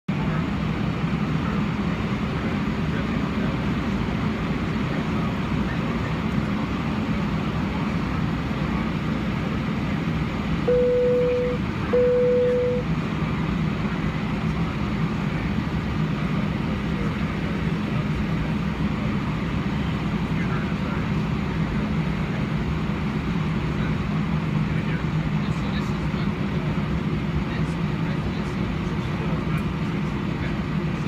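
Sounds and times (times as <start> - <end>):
airliner engine and cabin rumble: 0.1 - 31.0.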